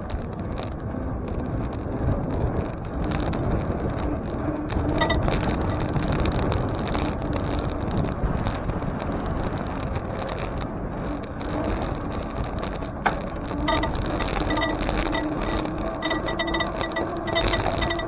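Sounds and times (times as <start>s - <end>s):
bicycle road noise: 0.0s - 18.0s
wind on microphone: 0.0s - 18.0s.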